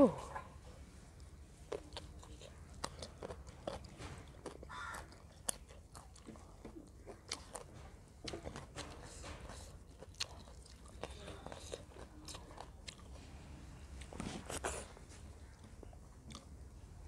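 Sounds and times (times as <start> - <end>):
wet chewing and lip smacks: 1.1 - 16.6.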